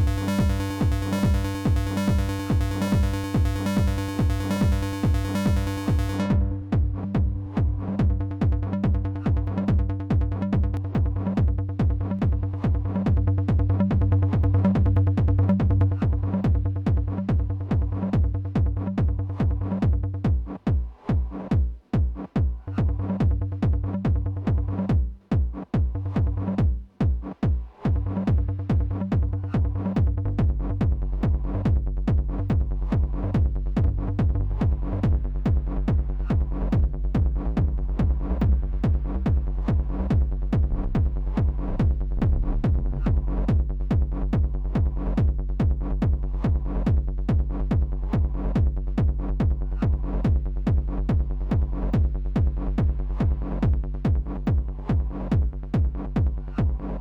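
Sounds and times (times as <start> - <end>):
low synth bassline: 0.0 - 21.5, 22.4 - 27.2, 27.8 - 57.0
techno kick and percussion loop: 0.0 - 57.0.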